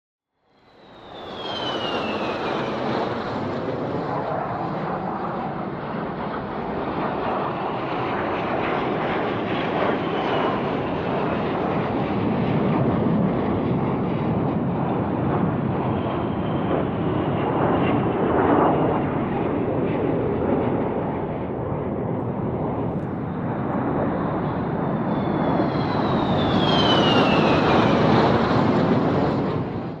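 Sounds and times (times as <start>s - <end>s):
jet engines roaring: 0.6s - 30.0s.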